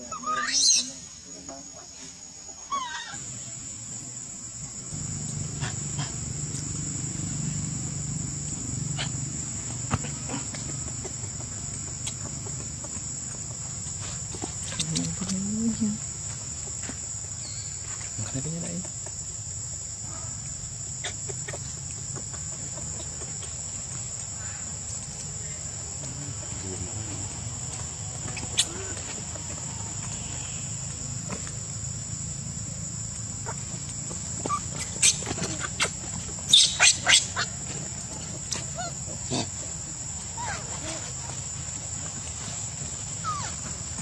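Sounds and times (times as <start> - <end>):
high-pitched insect drone: 0.0 - 20.1, 20.7 - 44.0.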